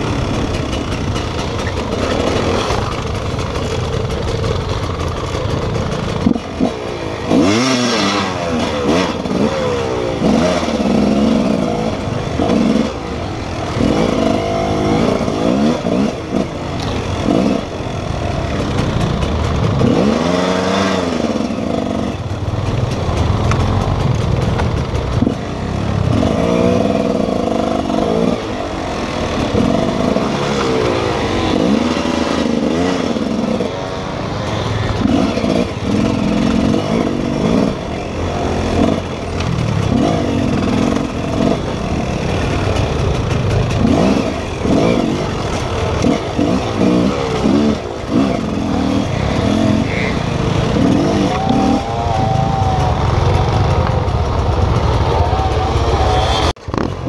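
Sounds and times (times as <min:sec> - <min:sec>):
motorcycle engine revving: 0:00.0 - 0:57.0
motorcycle rattling: 0:00.0 - 0:57.0.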